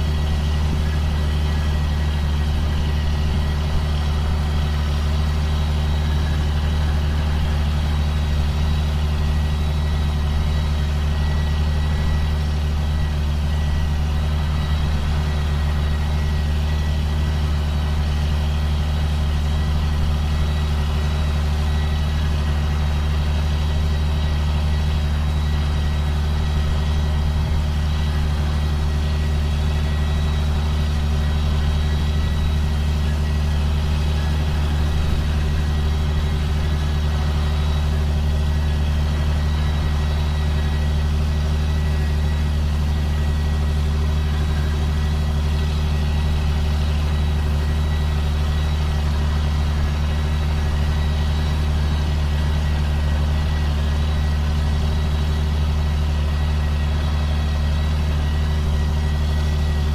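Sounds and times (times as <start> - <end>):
diesel engine running: 0.0 - 59.9
thin steady whine: 0.0 - 59.9.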